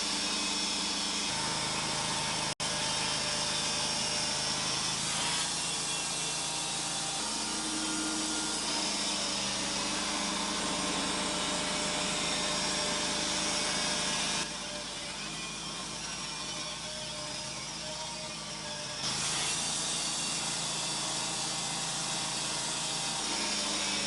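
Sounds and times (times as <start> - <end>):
band saw cutting log: 0.0 - 24.0
sawmill motor: 0.0 - 24.0.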